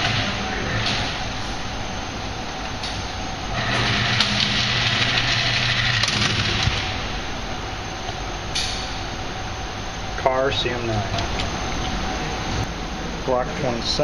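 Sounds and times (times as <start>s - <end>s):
motor hum and whine: 0.0s - 14.0s.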